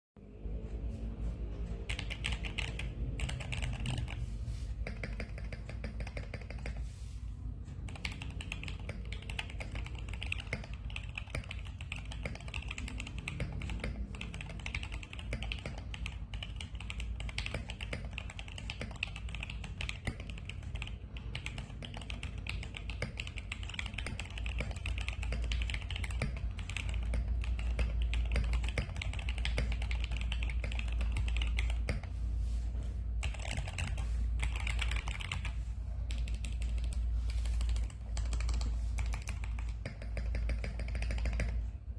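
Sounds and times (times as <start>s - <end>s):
mechanical keyboard typing: 1.8s - 4.2s, 4.8s - 6.8s, 7.8s - 32.1s, 33.2s - 41.9s.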